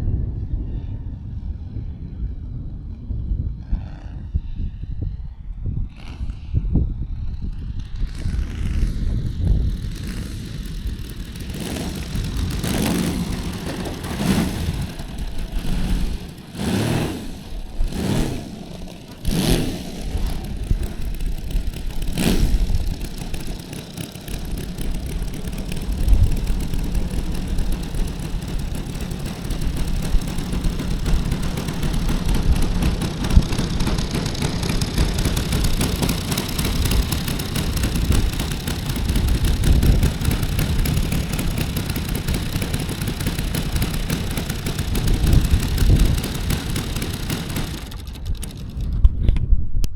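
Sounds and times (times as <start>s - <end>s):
model aircraft engine running: 1.5s - 49.4s.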